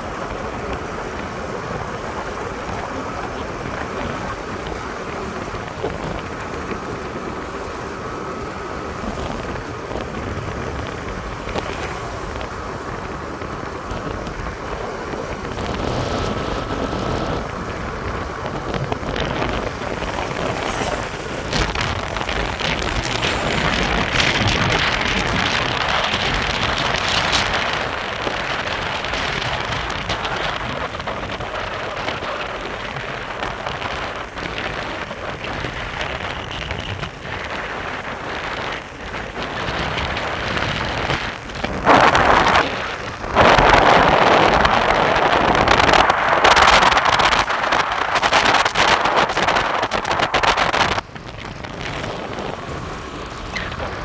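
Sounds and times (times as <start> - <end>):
road and wind noise: 0.0 - 54.0.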